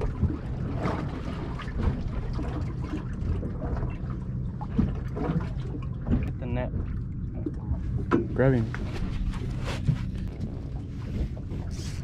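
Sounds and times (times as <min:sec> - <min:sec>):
water lapping against boat hull: 0:00.0 - 0:12.0
wind rumbling on microphone: 0:00.0 - 0:12.0.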